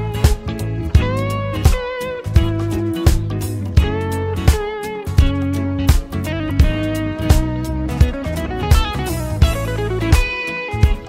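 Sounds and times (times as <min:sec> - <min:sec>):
guitar and keyboard chords: 0:00.0 - 0:11.0
steady drum beat: 0:00.0 - 0:11.0.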